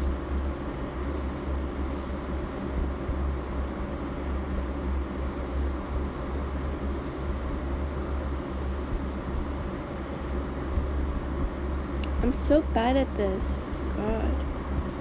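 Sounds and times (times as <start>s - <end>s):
steady low rumbling hum: 0.0s - 15.0s.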